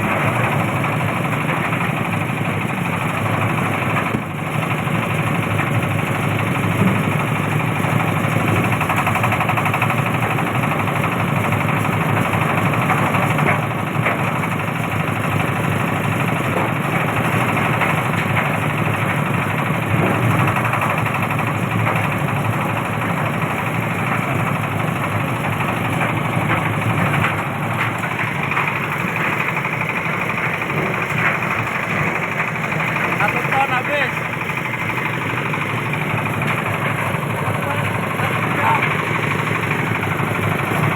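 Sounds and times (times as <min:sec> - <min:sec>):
fruit-stripping machine engine running: 0:00.0 - 0:40.9.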